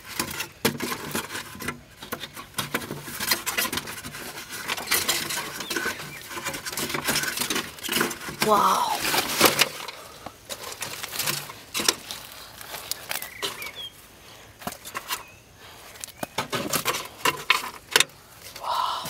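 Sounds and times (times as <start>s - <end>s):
hands handling metal case: 0.0s - 18.6s.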